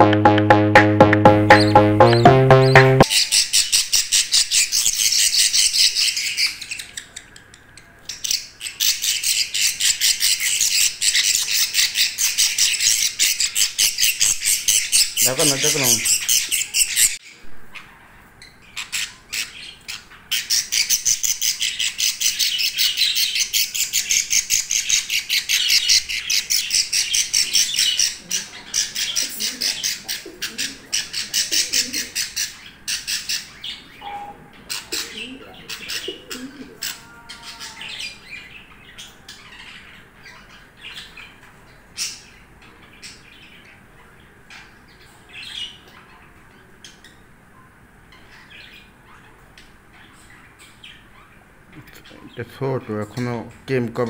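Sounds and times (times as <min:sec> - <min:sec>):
budgerigar chicks chirping: 0:01.4 - 0:47.3.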